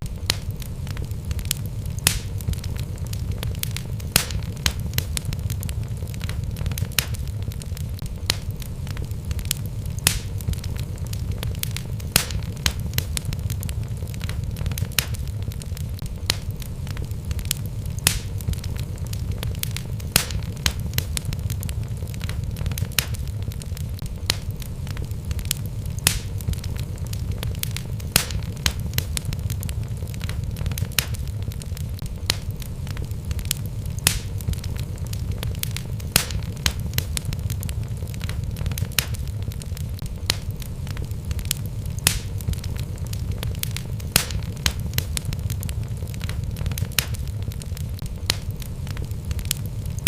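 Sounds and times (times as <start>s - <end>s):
flames rumbling: 0.0s - 50.0s
loud fire snaps: 0.0s - 50.0s
wood fire crackling: 0.0s - 50.0s.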